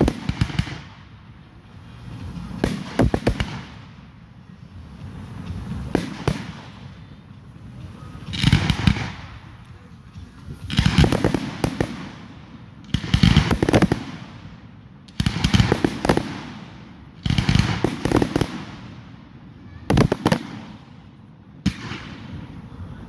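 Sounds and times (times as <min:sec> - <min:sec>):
fireworks bursting with crackling: 0:00.0 - 0:23.0.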